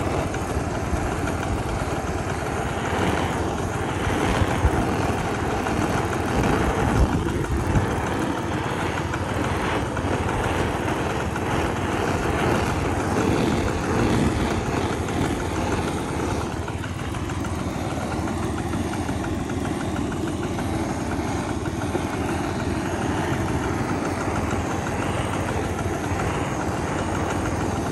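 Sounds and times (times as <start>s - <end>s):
butane torch hissing: 0.0s - 27.9s.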